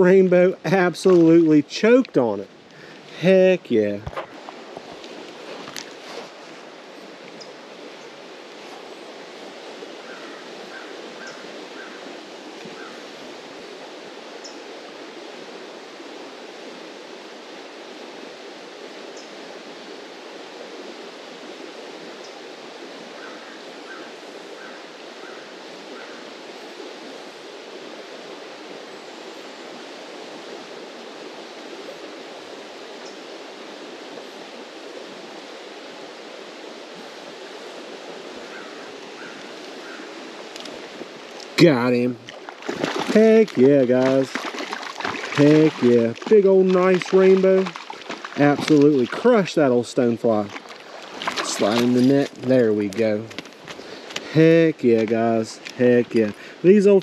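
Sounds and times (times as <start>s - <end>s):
flowing creek water: 0.0s - 57.0s.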